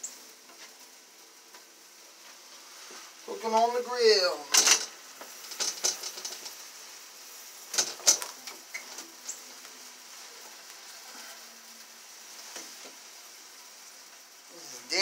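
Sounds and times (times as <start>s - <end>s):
sausages sizzling on electric grill: 0.0s - 15.0s.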